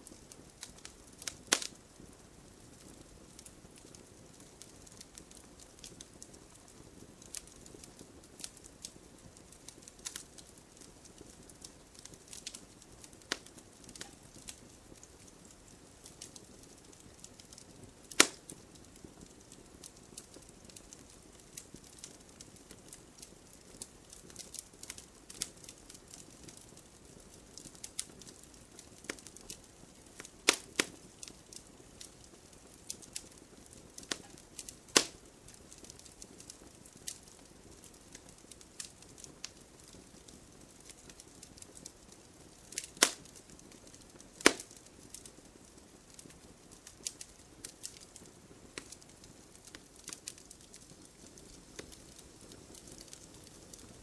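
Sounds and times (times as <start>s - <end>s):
campfire crackling: 0.0s - 54.0s
sharp pops of burning wood: 0.0s - 54.0s.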